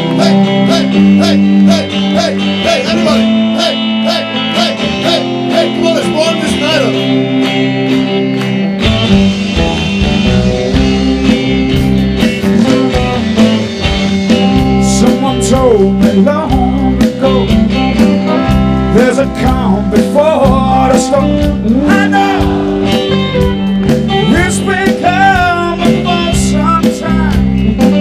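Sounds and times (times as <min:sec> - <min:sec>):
bass and drums: 0:00.0 - 0:28.0
lead guitar with sliding notes: 0:00.0 - 0:28.0
strummed guitar: 0:00.0 - 0:28.0.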